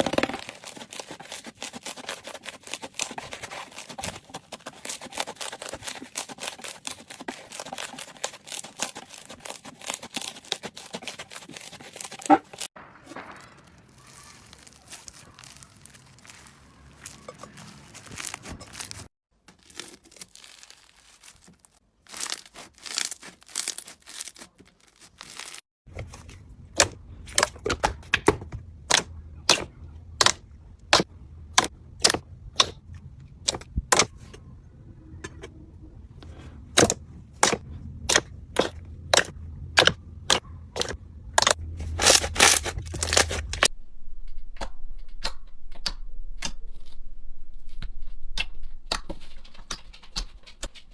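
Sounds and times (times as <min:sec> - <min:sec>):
slime squishing by hand: 0:00.0 - 0:34.5, 0:36.3 - 0:43.7.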